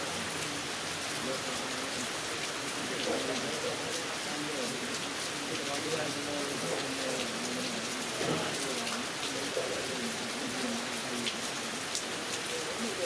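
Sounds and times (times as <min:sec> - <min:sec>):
heavy rain falling: 0:00.0 - 0:13.0
raindrops striking close by: 0:00.0 - 0:13.0.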